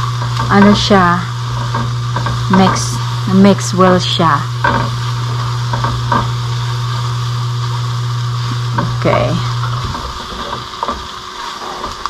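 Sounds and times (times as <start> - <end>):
low steady hum: 0.0 - 11.1
spatula stirring strokes: 0.0 - 12.0
vegetables sizzling in a skillet: 0.0 - 12.0.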